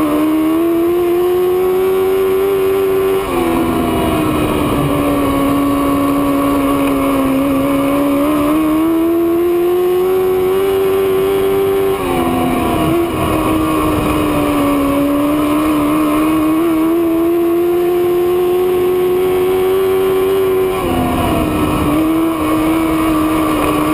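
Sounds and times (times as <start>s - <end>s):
race car engine at full throttle: 0.0s - 23.9s.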